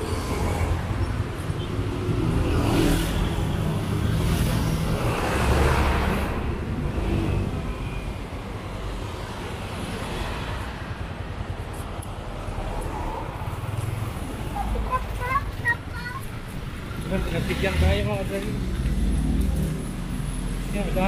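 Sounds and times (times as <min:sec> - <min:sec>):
cars and vans driving past: 0:00.0 - 0:21.0.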